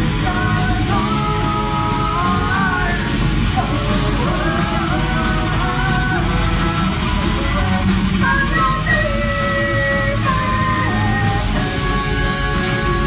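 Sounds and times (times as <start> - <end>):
metal band playing: 0.0 - 13.0
person singing: 0.0 - 13.0.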